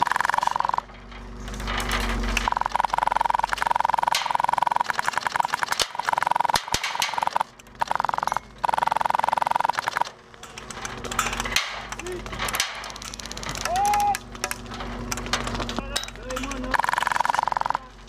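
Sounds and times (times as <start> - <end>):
rapid gun clicking: 2.4 - 15.6, 16.2 - 18.0.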